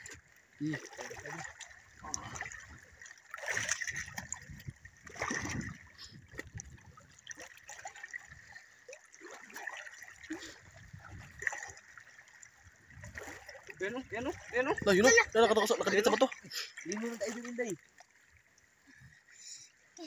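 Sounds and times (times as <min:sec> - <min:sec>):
feet wading through water: 0:00.0 - 0:20.0.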